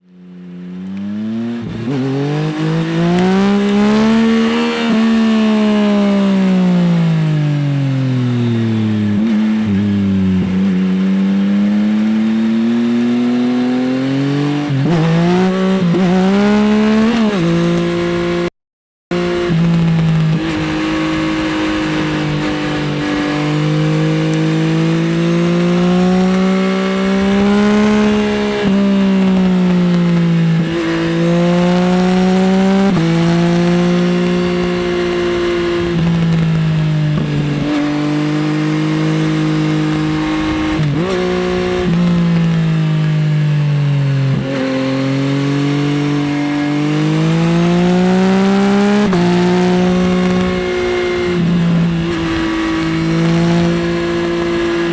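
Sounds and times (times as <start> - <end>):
motorcycle engine revving: 0.0 - 18.5, 19.1 - 54.9.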